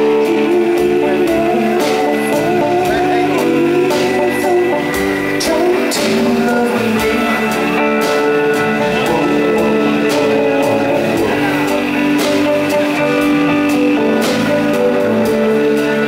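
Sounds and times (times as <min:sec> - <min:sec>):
drum kit with cymbal hits: 0:00.0 - 0:16.0
electric bass: 0:00.0 - 0:16.0
electric guitar: 0:00.0 - 0:16.0.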